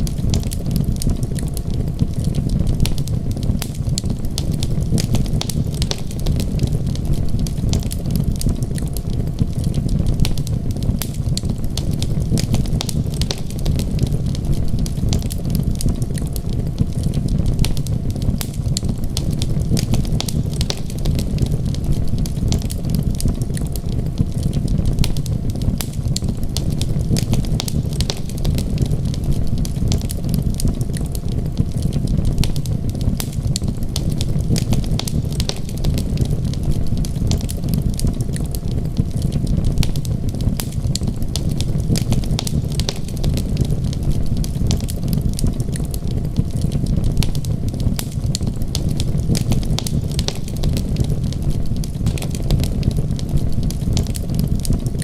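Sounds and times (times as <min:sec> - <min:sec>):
low fire rumble: 0:00.0 - 0:55.0
wood fire crackling: 0:00.0 - 0:55.0.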